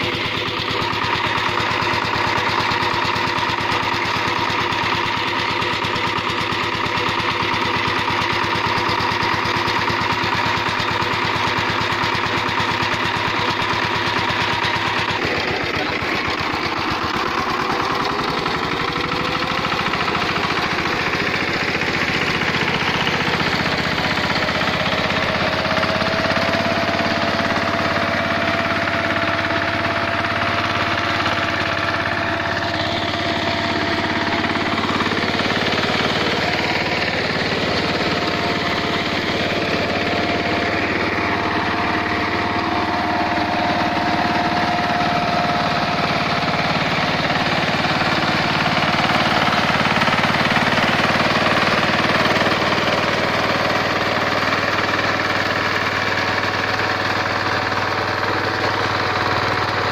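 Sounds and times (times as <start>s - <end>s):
diesel engine clattering: 0.0s - 59.9s.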